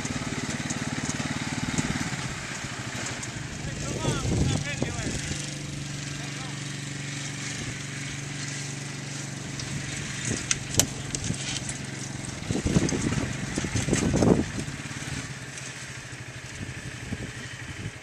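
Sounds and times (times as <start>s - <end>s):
atv engine running: 0.0s - 18.0s
loud rough noise: 0.0s - 18.0s.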